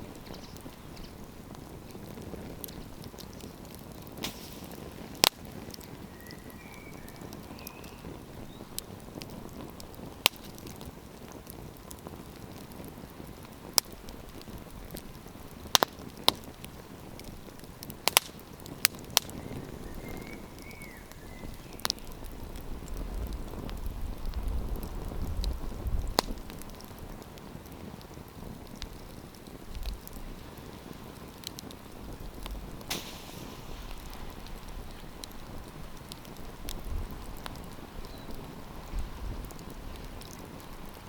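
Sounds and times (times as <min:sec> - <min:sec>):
campfire pops: 0:00.0 - 0:41.0
hiss of burning wood: 0:00.0 - 0:41.0.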